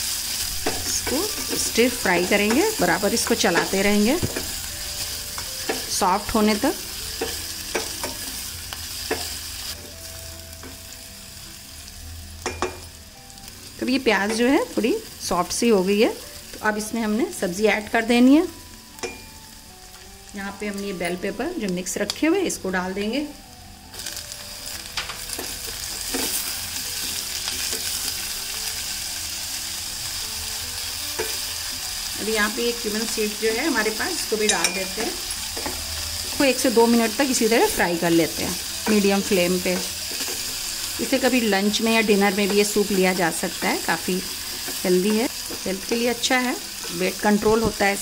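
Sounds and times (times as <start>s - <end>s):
onions sizzling in oil: 0.0s - 48.0s.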